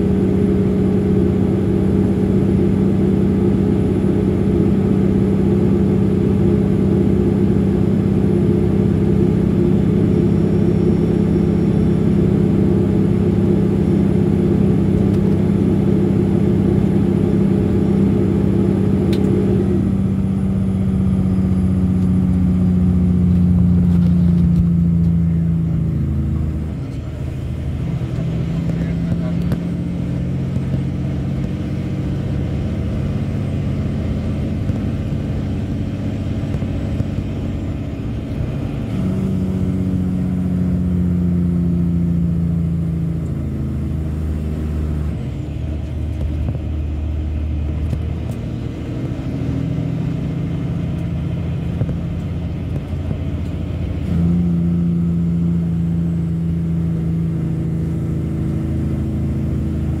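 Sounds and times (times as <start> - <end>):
diesel truck engine from cab: 0.0 - 60.0.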